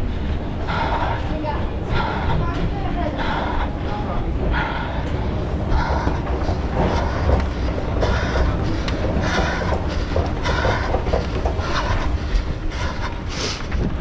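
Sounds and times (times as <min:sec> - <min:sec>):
rumble of motion: 0:00.0 - 0:14.0
runner breathing hard: 0:00.0 - 0:14.0.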